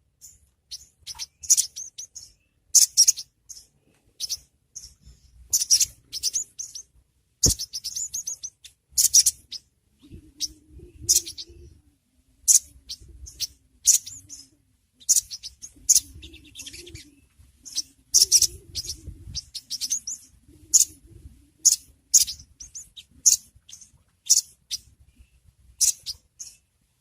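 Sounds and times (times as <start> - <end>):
bird calling with high chirps: 0.0 - 26.7.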